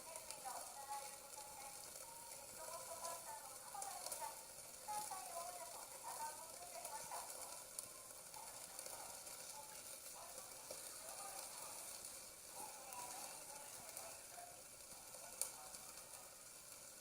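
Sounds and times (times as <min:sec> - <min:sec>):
burning paper hissing: 0:00.0 - 0:17.0
fire crackles: 0:00.0 - 0:17.0.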